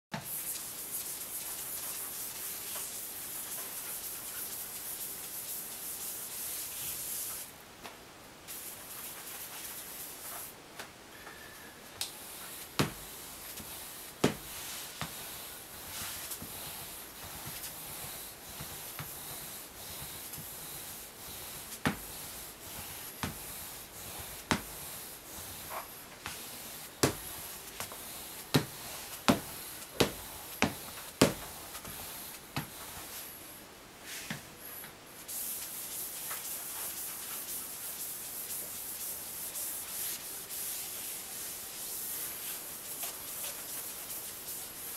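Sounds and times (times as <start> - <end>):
ink roller hissing on stone: 0.2 - 7.6, 12.1 - 44.9.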